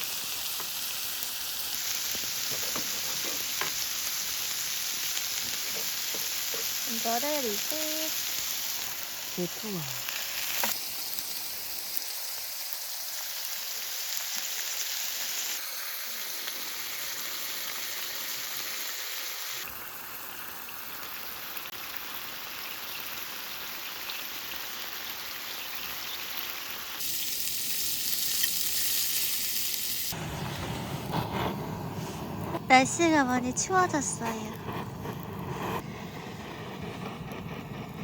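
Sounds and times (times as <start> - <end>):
food sizzling in hot fat: 0.0 - 38.0.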